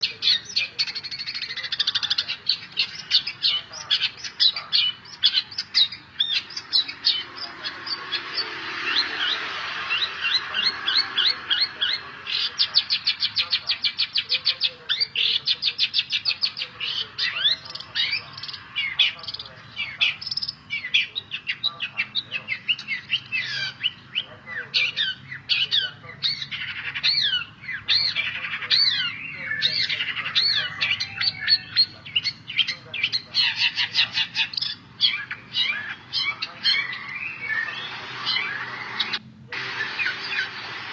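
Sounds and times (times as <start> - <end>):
bird chattering song: 0.0 - 39.2.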